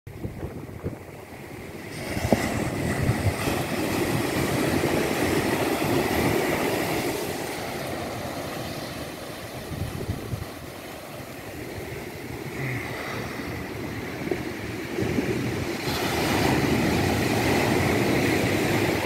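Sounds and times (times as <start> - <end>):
waves breaking on beach: 0.1 - 19.0.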